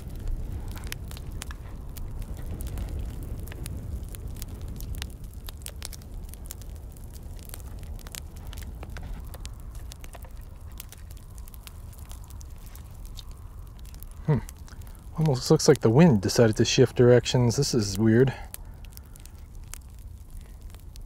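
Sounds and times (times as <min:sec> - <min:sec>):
wind rumble on microphone: 0:00.0 - 0:21.0
wood fire crackling and popping: 0:00.0 - 0:21.0.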